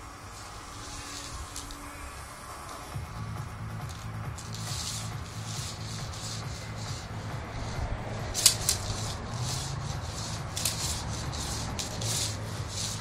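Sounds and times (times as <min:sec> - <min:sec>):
hula hoop swishing and rattling: 0:00.0 - 0:13.0.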